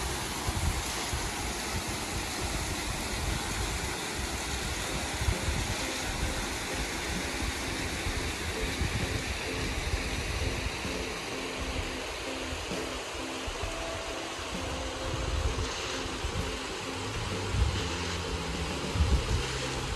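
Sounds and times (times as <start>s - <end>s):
small waterfall rushing: 0.0s - 19.9s.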